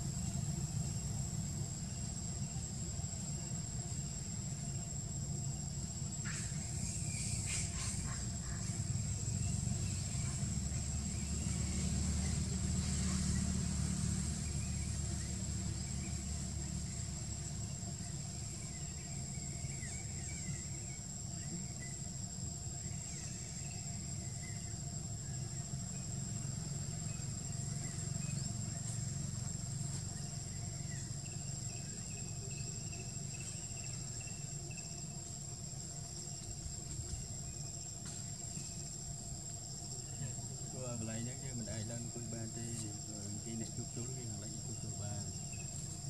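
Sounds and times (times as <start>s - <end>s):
high insect drone: 0.0s - 46.0s.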